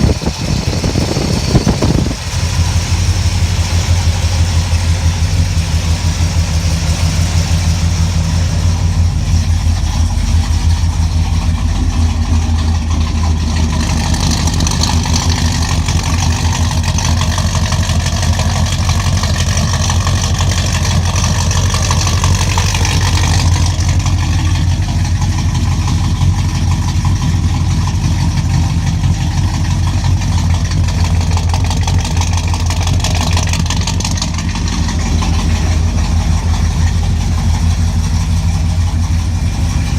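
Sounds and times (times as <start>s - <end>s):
car engine idling: 0.0s - 39.9s
deep exhaust drone: 0.0s - 39.9s.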